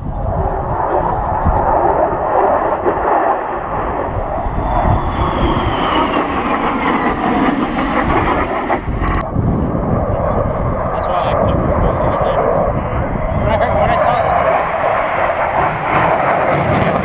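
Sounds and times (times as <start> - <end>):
jet engine flying over: 0.0 - 17.0.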